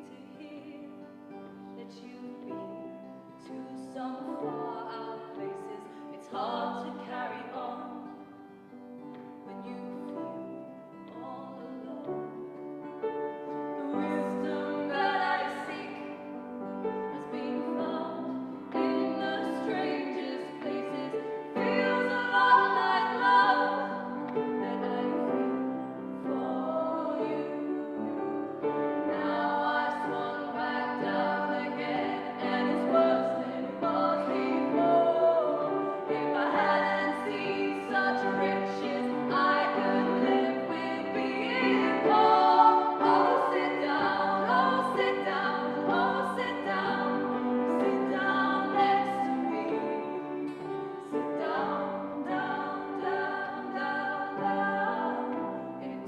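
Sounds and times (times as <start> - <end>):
voices singing slow song: 9.5 - 56.0.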